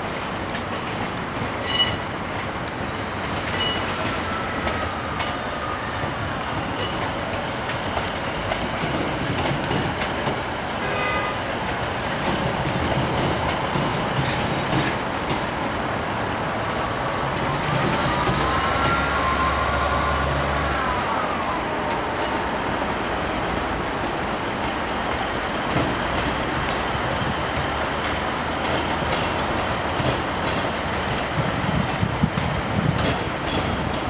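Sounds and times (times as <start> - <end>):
train engine and wheels rumbling: 0.0 - 34.0.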